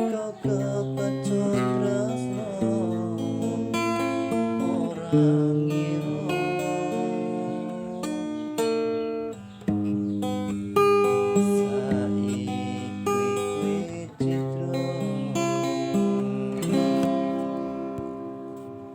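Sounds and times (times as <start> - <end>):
acoustic guitar chords: 0.0 - 18.9.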